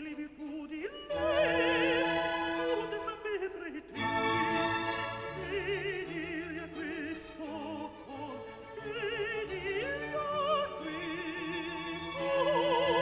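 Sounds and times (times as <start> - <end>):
operatic voice singing: 0.0 - 13.0
orchestral accompaniment: 1.1 - 13.0.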